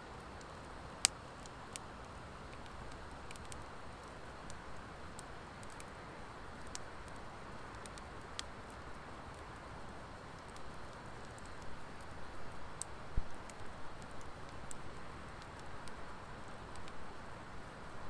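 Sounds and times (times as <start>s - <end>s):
fire pops and crackles: 0.1s - 17.7s
wood fire hissing: 0.1s - 18.0s.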